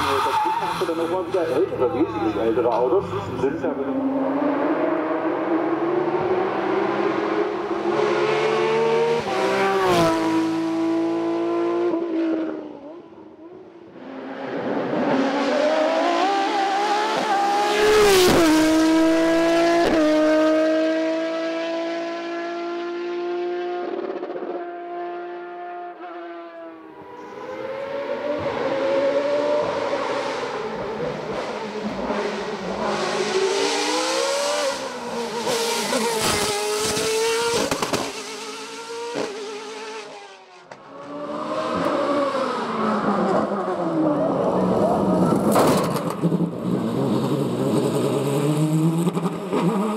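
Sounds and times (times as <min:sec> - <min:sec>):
race cars revving past: 0:00.0 - 0:49.9.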